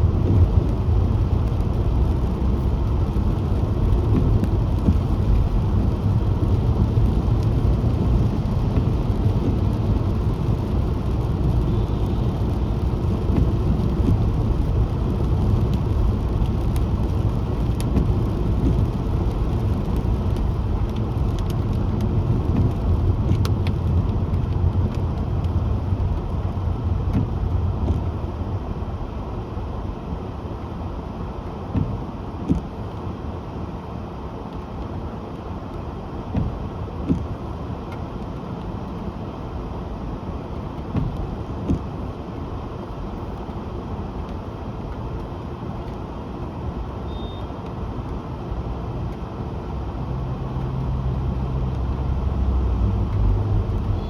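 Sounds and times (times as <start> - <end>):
car tyres and engine on wet road: 0.0 - 54.0.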